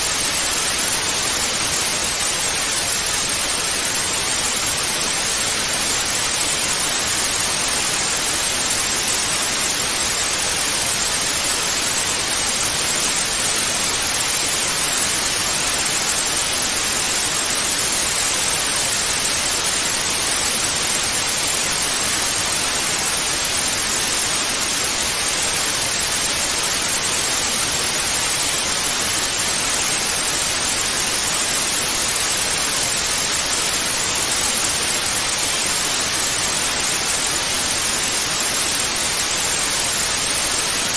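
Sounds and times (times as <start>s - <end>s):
tv static hiss: 0.0s - 40.9s.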